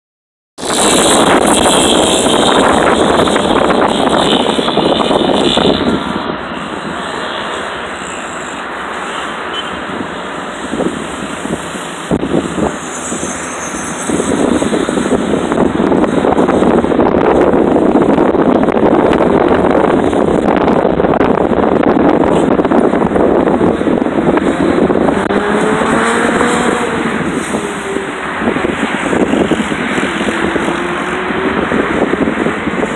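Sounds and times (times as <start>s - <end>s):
highway traffic passing: 0.6s - 32.9s
wind gusting on microphone: 0.6s - 32.9s.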